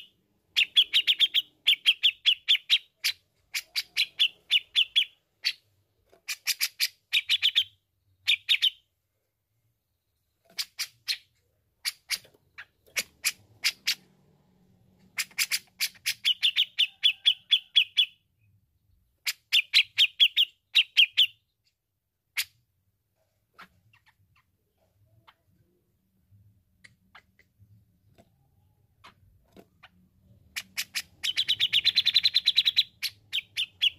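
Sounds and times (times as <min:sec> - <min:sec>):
bird chattering song: 0:00.0 - 0:08.9, 0:10.2 - 0:14.2, 0:15.0 - 0:22.6, 0:23.6 - 0:25.8, 0:26.8 - 0:33.9.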